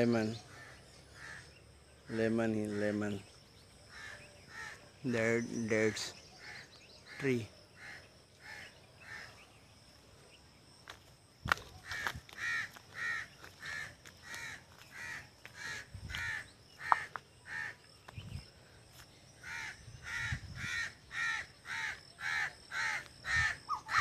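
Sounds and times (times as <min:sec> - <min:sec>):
bird calling: 0:00.0 - 0:09.7, 0:11.6 - 0:18.5, 0:19.3 - 0:24.0.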